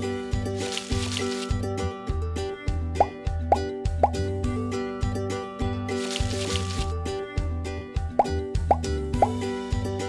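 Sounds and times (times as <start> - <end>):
light background music: 0.0 - 10.0.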